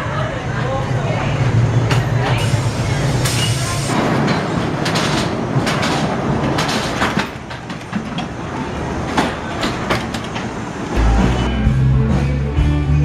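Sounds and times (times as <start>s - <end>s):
roller coaster cars rattling: 0.0s - 12.3s.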